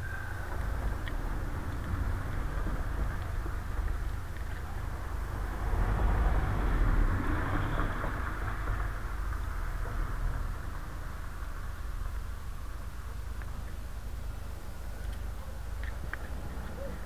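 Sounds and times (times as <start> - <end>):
traffic hum: 0.0 - 17.0
vehicle passing: 0.0 - 17.0.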